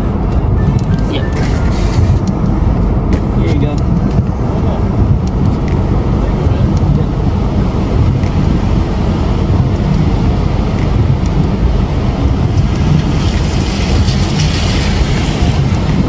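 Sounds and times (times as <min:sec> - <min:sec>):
car engine running: 0:00.0 - 0:16.0
rain on windshield: 0:00.0 - 0:16.0
windshield wipers sweeping: 0:00.0 - 0:16.0.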